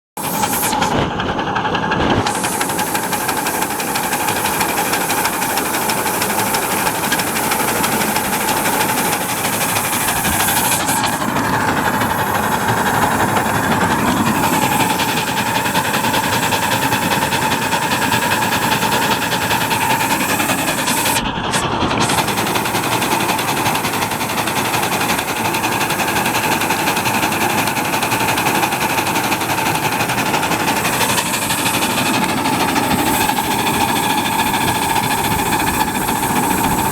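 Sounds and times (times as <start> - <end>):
miniature steam locomotive chuffing: 0.1 - 36.9.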